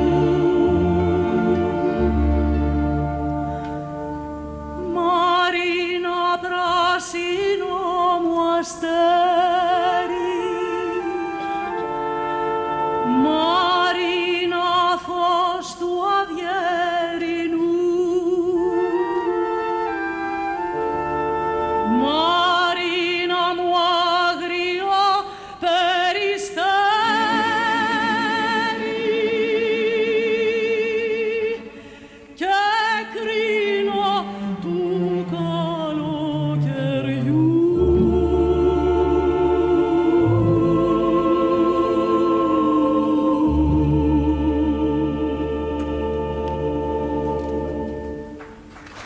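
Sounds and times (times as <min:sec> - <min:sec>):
woman singing with vibrato: 0:00.0 - 0:01.8, 0:04.8 - 0:11.4, 0:12.6 - 0:19.9, 0:21.8 - 0:48.2
symphony orchestra: 0:00.0 - 0:49.0.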